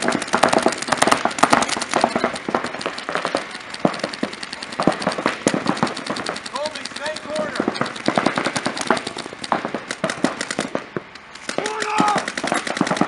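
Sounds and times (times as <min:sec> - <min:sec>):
paintball markers firing: 0:00.0 - 0:13.0.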